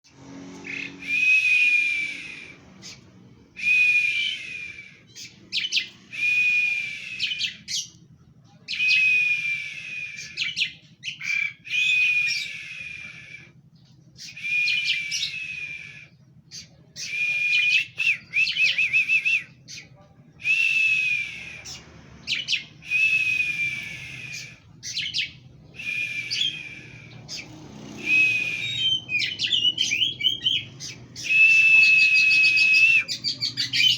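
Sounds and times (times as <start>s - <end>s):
songbird harsh rasping song: 0.2s - 33.9s.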